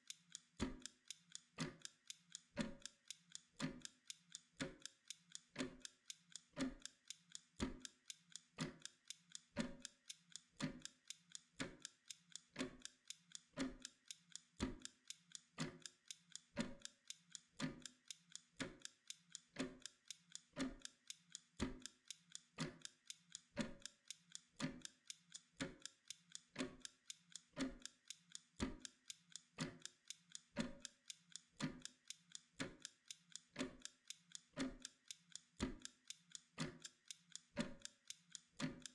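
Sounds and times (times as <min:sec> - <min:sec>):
kitchen timer ticking: 0:00.0 - 0:38.9.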